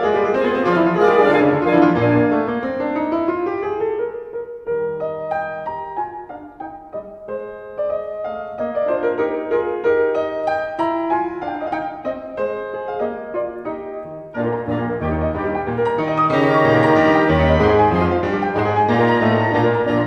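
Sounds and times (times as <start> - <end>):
piano melody: 0.0 - 20.0.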